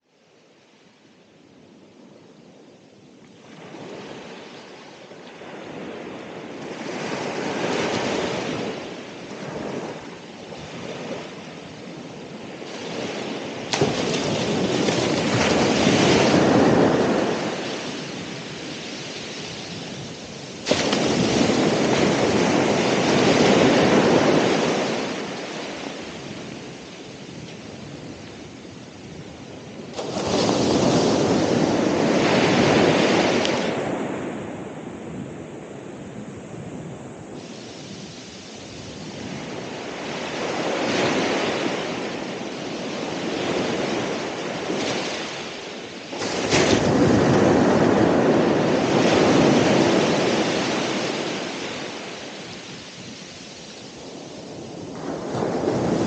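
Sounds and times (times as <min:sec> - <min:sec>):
waves breaking on shore: 0:00.6 - 0:56.0.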